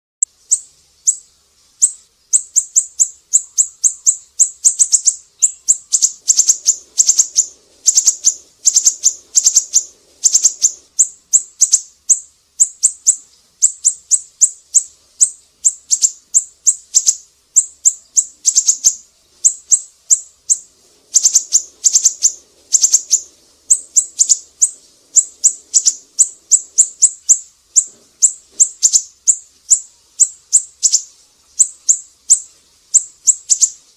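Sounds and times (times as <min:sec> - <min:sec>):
songbird chirping: 0:00.2 - 0:33.9.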